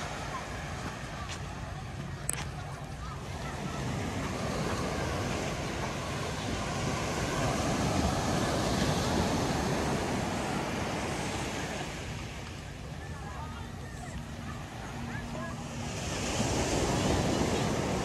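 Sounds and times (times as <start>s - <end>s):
waves breaking on sandy beach: 0.0s - 18.0s.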